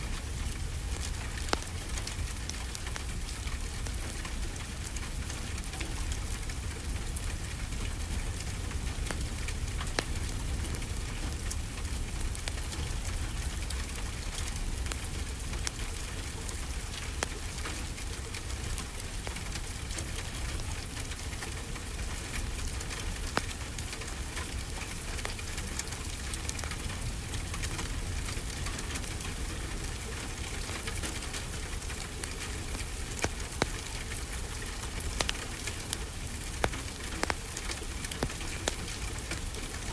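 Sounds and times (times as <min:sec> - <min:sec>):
wood fire crackling: 0:00.0 - 0:39.9
rainfall hissing: 0:06.2 - 0:39.9.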